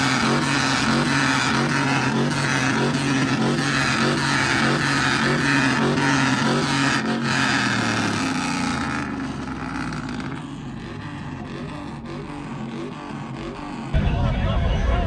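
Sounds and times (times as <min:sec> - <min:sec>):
motor vehicle engine running: 0:00.0 - 0:15.0.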